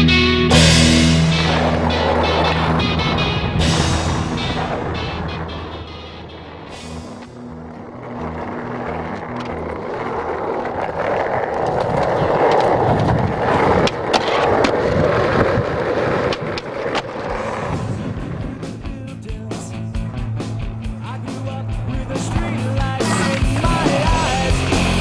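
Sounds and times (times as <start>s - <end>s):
skateboard wheels rolling on asphalt: 0.0s - 25.0s
skateboard clacks: 0.4s - 25.0s.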